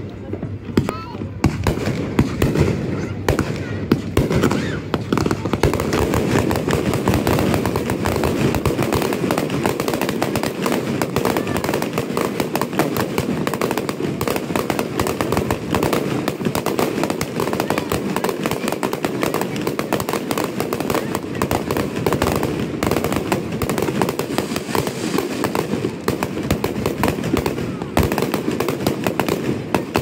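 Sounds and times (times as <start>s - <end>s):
fireworks bursting with bangs and crackle: 0.0s - 30.0s.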